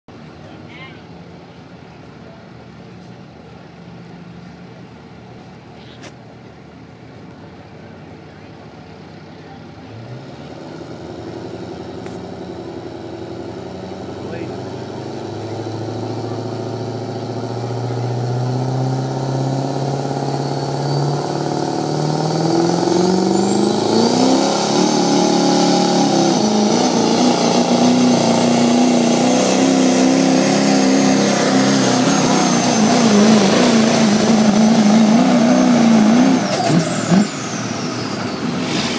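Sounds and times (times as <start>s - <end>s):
diesel truck engine revving: 6.6s - 38.9s.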